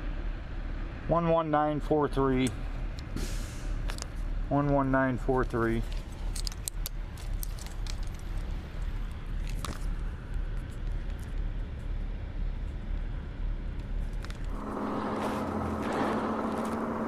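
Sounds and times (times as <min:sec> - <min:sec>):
steady hum with rushing sound: 0:00.0 - 0:17.0
car engine idling: 0:02.2 - 0:17.0.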